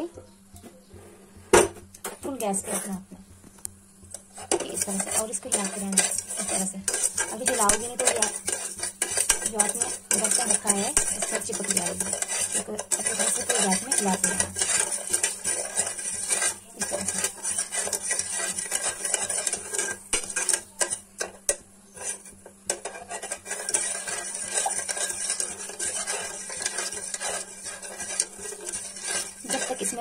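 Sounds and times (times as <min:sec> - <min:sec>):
metal spoon scraping a metal pot: 0:04.1 - 0:30.0.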